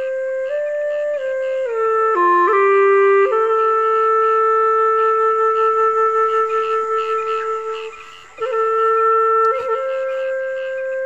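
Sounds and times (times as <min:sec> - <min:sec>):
woodwind playing long notes: 0:00.0 - 0:11.0.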